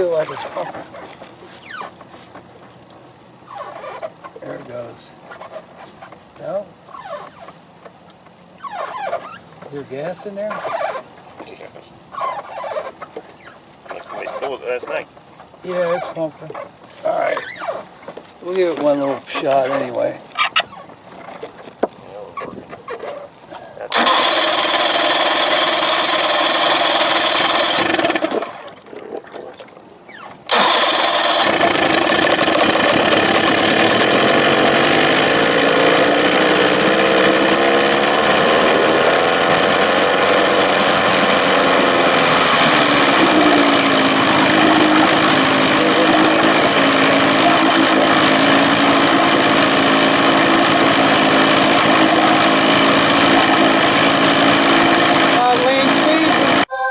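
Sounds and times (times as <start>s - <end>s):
outboard motor running: 0.0s - 56.7s.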